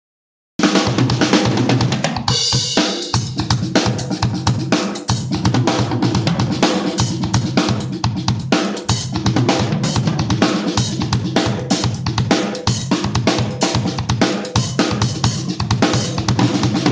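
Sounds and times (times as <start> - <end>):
drum kit groove: 0.6 - 16.9.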